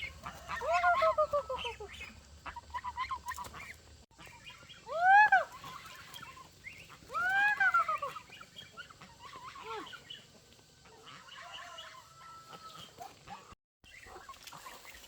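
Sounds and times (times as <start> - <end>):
poultry long rising calls: 0.0 - 3.6, 4.2 - 13.6.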